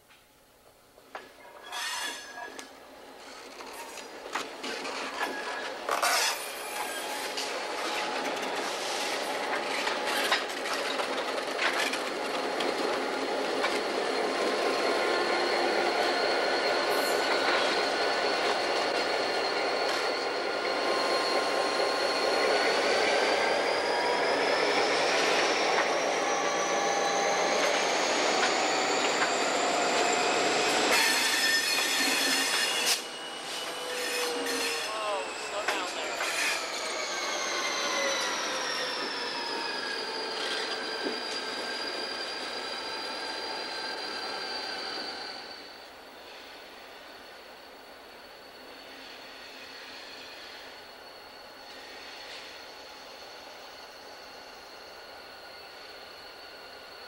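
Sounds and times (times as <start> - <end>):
diesel locomotives rolling past: 0.9 - 57.0
wheels squealing against rail: 1.4 - 57.0.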